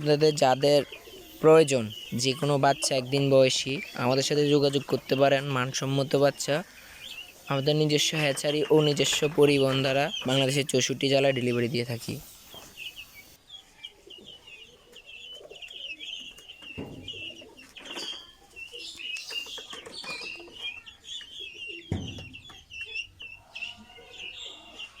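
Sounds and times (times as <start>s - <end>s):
chicks chirping: 0.0s - 25.0s.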